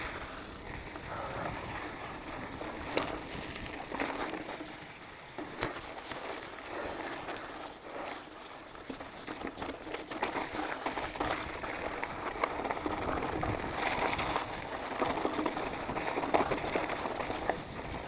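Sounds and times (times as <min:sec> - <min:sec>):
bike tyres crunching over rocks: 0:00.0 - 0:18.0.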